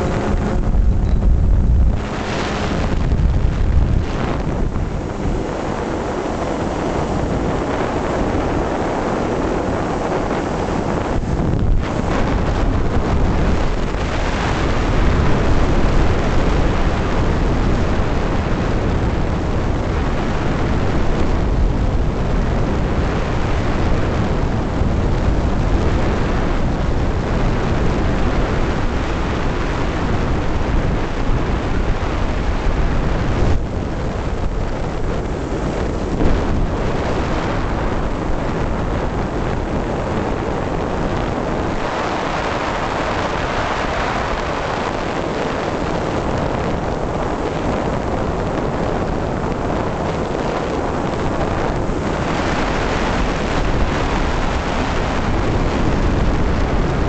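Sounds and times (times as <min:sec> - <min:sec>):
aircraft engine noise: 0:00.0 - 0:57.0
wind rushing over microphone: 0:00.0 - 0:57.0.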